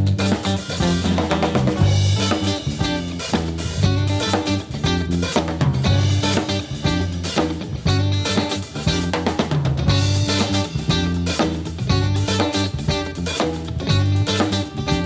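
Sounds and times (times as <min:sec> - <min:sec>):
drum kit: 0:00.0 - 0:15.0
live band playing funk: 0:00.0 - 0:15.0.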